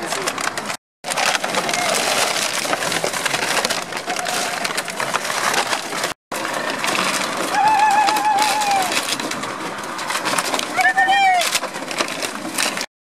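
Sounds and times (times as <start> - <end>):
plastic bottles crackling underfoot: 0.0 - 12.9.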